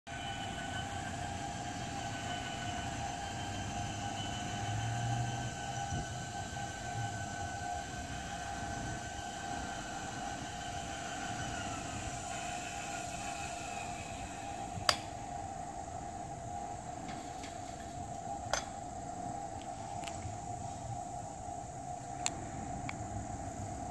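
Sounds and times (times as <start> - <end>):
gate motors whining: 0.1 - 23.1.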